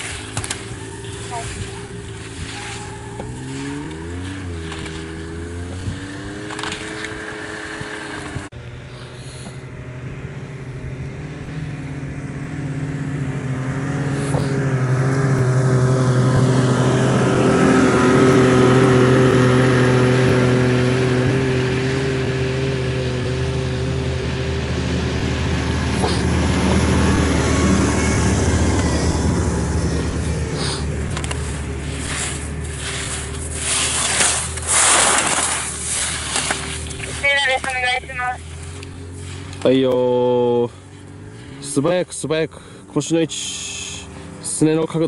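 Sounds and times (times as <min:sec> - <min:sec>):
engine running steadily: 0:00.0 - 0:45.0.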